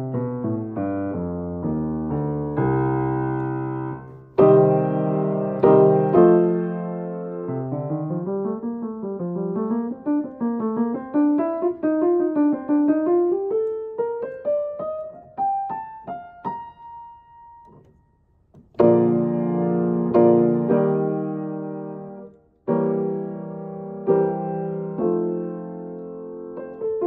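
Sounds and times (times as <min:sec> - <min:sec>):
piano playing: 0:00.0 - 0:27.0.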